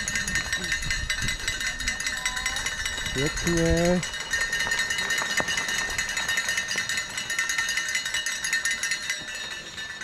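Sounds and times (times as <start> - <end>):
cowbells clanging: 0.0 - 10.0.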